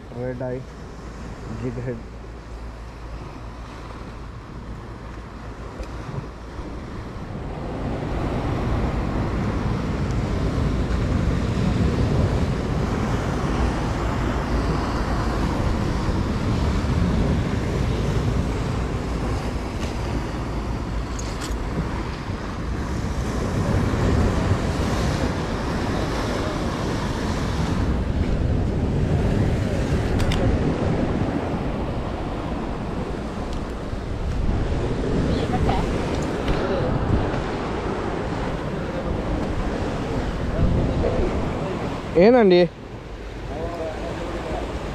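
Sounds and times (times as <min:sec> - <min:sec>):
sea surf against rocks: 0:00.0 - 0:44.9
wind buffeting microphone: 0:00.0 - 0:44.9.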